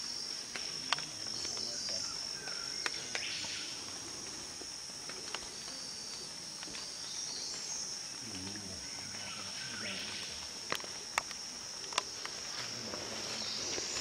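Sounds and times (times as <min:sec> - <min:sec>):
insects chirring in chorus: 0:00.0 - 0:14.0.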